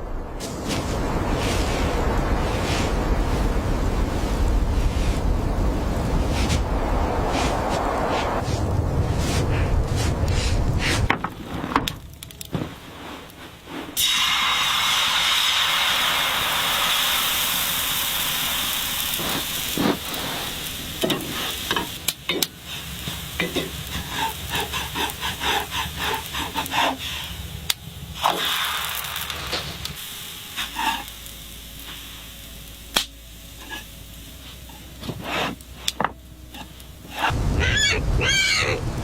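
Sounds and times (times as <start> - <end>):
crackles and pops: 0.0 - 39.0
sizzling hiss: 0.0 - 39.0.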